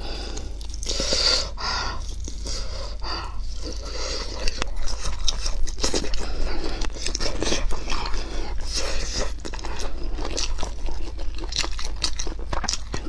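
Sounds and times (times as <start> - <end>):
biting and chewing sausage: 0.0 - 13.0.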